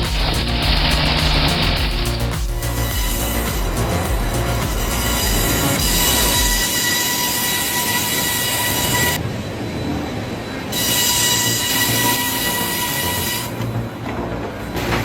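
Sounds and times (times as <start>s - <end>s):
high-pitched metallic machinery squeal: 0.0s - 14.0s.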